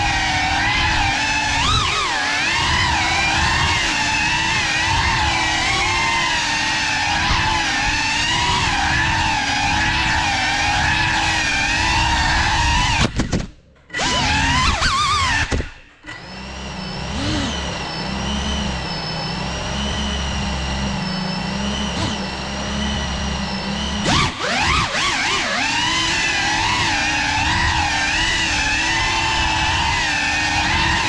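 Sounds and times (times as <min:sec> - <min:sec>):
drone motors and propellers whining: 0:00.0 - 0:31.0.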